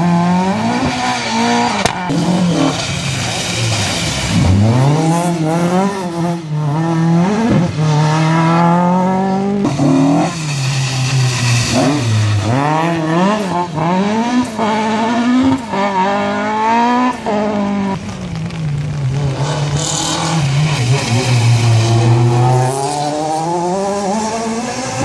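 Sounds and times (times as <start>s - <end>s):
rally car engines revving: 0.0s - 25.0s
car braking: 0.5s - 25.0s.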